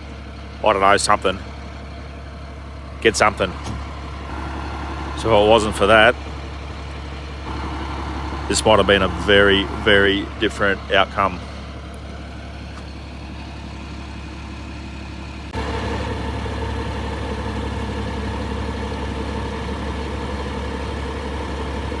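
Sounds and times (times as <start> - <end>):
engine hum: 0.0 - 22.0.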